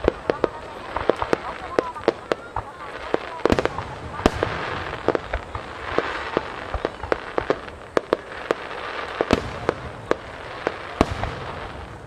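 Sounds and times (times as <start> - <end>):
firework hiss and crackle: 0.0 - 12.0.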